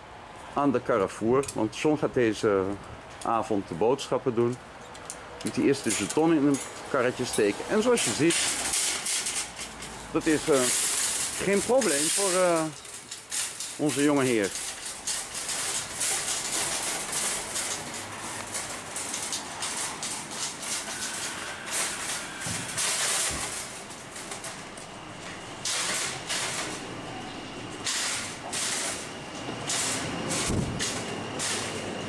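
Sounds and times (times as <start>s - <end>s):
shopping cart rattling: 5.5s - 32.0s.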